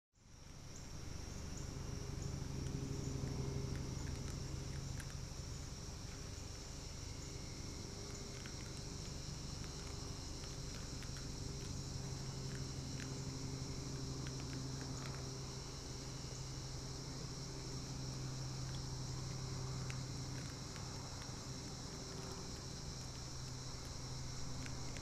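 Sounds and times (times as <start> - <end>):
crickets chirping: 0.2 - 25.0
low steady hum: 0.2 - 25.0
faint clicks and scratches: 2.2 - 15.9, 17.1 - 25.0.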